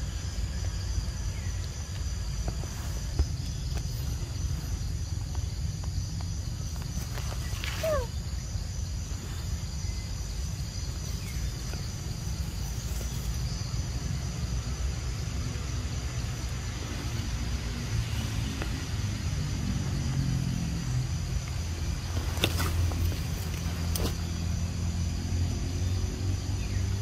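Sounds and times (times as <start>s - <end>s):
high insect buzz: 0.0s - 27.0s.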